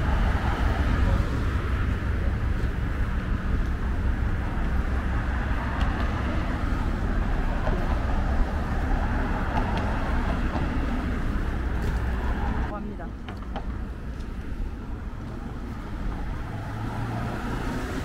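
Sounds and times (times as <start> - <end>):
constant low rumble: 0.0 - 16.6
outdoor street ambience: 0.0 - 18.0.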